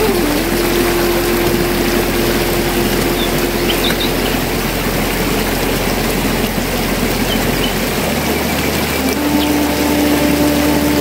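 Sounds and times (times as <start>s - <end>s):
low hum: 0.0s - 11.0s
rushing water: 0.0s - 11.0s.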